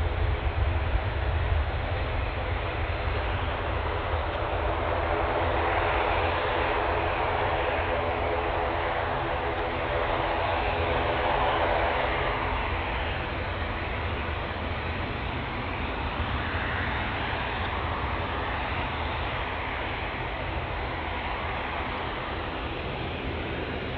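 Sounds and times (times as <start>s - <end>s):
airliner engines droning: 0.0s - 23.9s.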